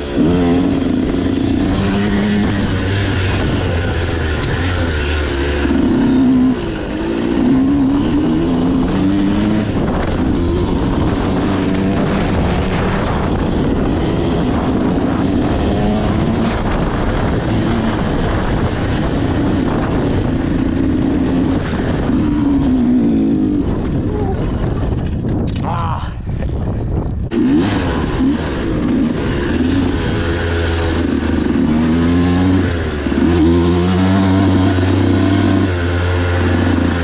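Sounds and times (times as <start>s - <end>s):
dirt bike engine revving: 0.0s - 24.9s, 27.3s - 37.0s.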